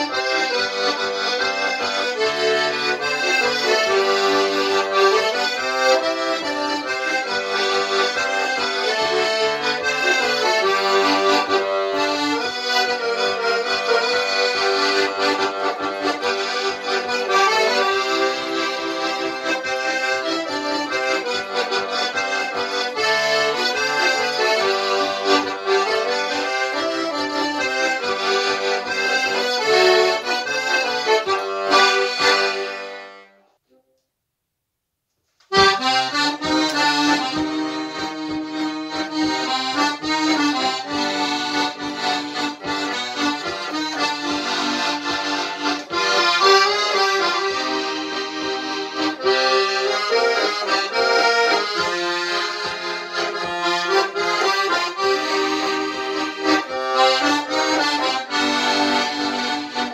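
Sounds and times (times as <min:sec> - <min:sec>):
piano accordion playing: 0:00.0 - 0:33.6, 0:35.5 - 0:59.9.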